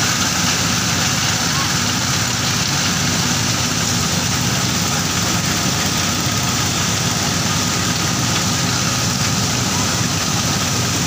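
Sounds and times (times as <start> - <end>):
mill engine droning: 0.0 - 11.0.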